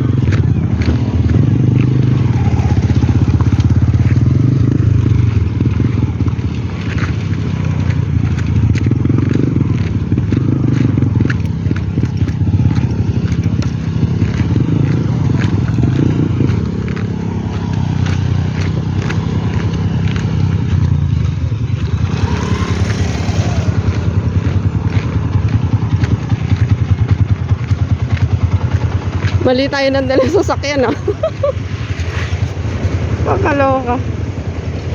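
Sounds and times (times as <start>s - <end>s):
vehicle engine driving: 0.0s - 34.9s.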